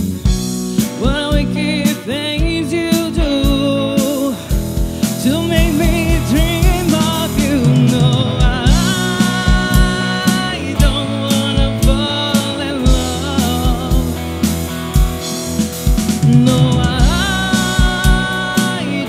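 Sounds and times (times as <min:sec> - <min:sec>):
live rock band playing: 0:00.0 - 0:19.0
woman singing: 0:01.0 - 0:04.6, 0:05.2 - 0:14.3, 0:16.2 - 0:19.0.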